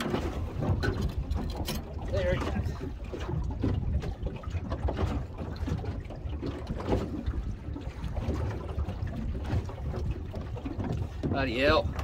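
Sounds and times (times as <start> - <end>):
water lapping against boat hull: 0.0 - 12.0
wind rumble on microphone: 0.0 - 12.0.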